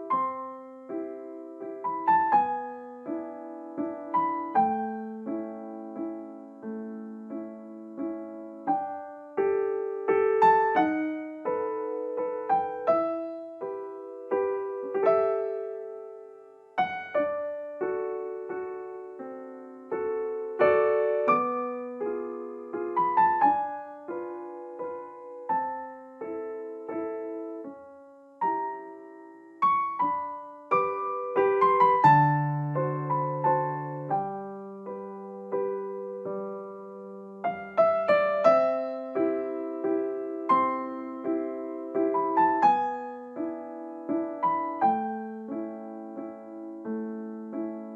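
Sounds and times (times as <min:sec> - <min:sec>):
background piano music: 0:00.0 - 0:47.9.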